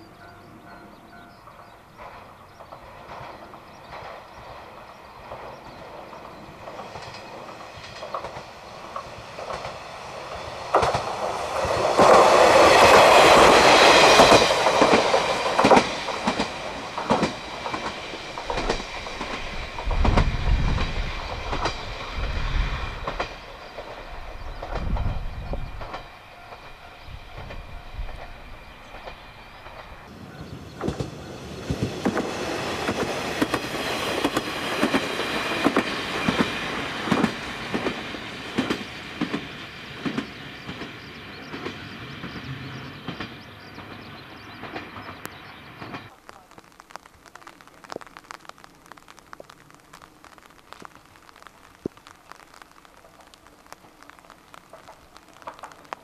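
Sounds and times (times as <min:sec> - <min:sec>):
wheels clicking over rail joints: 0:00.7 - 0:25.1, 0:25.8 - 0:48.2, 0:50.8 - 0:56.0.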